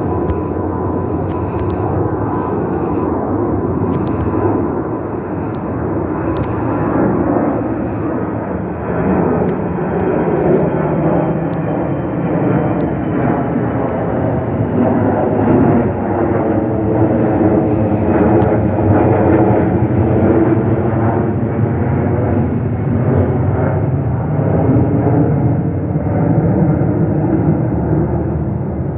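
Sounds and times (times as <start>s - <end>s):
jet airliner passing: 0.0s - 28.9s.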